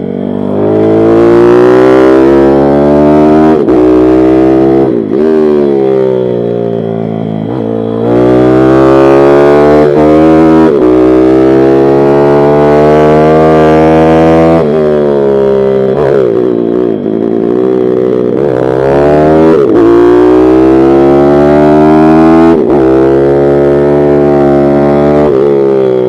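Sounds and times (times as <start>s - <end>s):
motorbike engine running hard: 0.0s - 26.0s.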